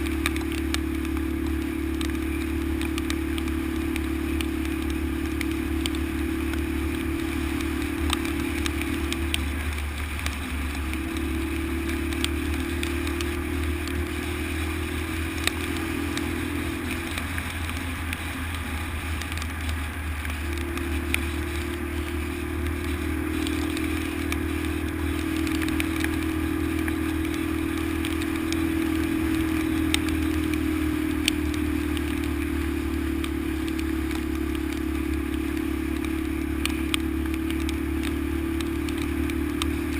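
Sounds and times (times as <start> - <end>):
motorcycle engine running: 0.0 - 39.9
sharp clicks and rattles: 0.0 - 39.9.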